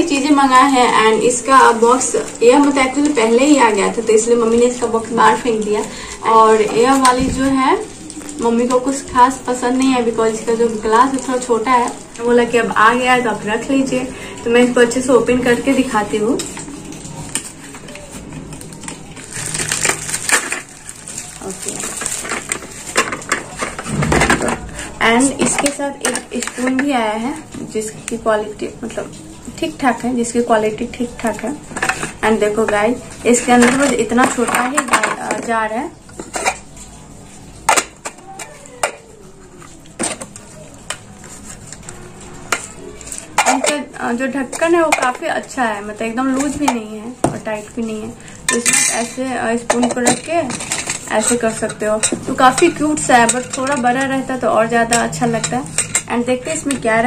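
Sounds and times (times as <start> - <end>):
plastic packaging crinkling: 0.0 - 57.0.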